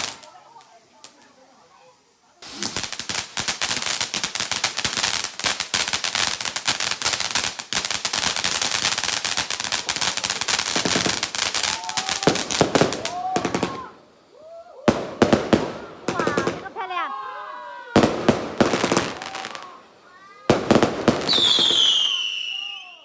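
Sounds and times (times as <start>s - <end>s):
firecrackers crackling: 0.0s - 17.2s, 17.9s - 23.0s.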